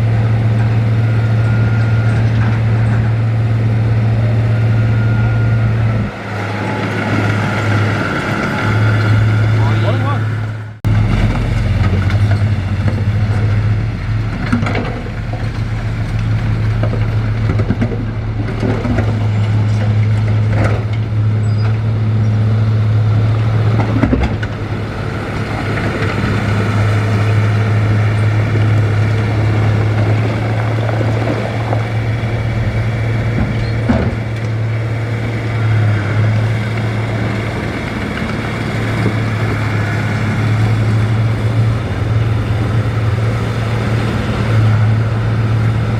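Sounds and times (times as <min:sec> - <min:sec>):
bulldozer diesel engine droning: 0:00.0 - 0:45.9.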